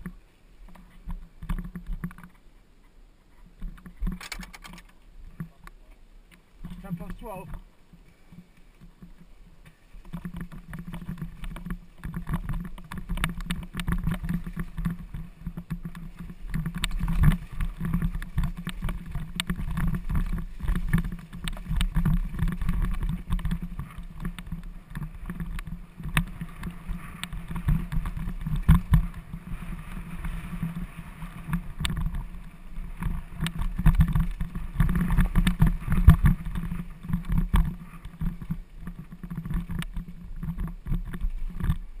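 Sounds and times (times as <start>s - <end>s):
bike rattling: 0.0s - 2.4s, 3.3s - 5.6s, 6.6s - 42.0s
bike tyres rumbling on dirt: 6.6s - 42.0s.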